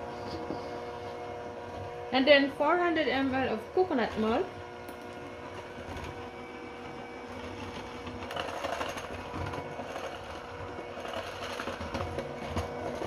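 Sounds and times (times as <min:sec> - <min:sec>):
hand mixer whisking batter: 0:00.0 - 0:13.0.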